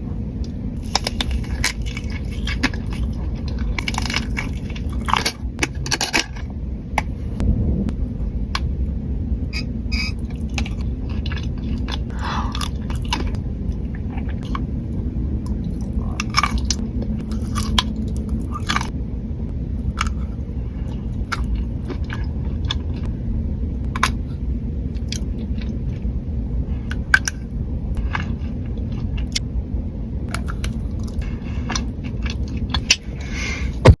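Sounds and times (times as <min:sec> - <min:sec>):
low rumble: 0:00.0 - 0:34.0
chewing with crunches: 0:00.4 - 0:07.4, 0:09.6 - 0:18.9, 0:19.8 - 0:23.1, 0:23.9 - 0:26.1, 0:26.7 - 0:29.5, 0:30.3 - 0:34.0.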